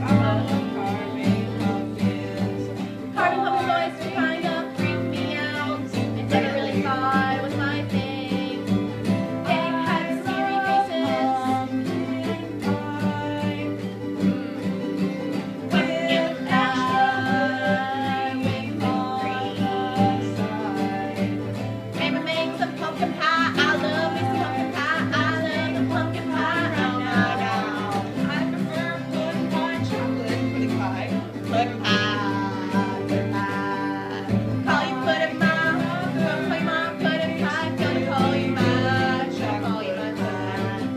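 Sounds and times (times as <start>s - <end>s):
acoustic guitar: 0.0s - 40.9s
person singing: 0.0s - 40.9s.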